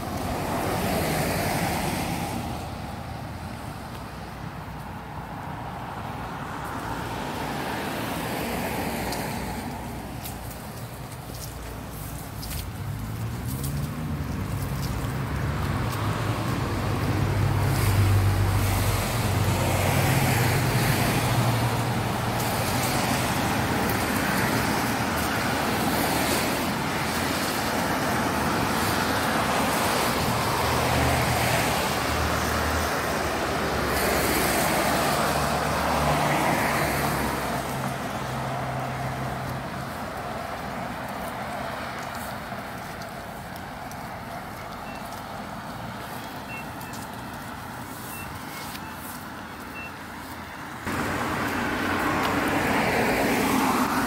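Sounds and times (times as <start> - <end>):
tyre hiss on damp road: 5.9 - 54.0.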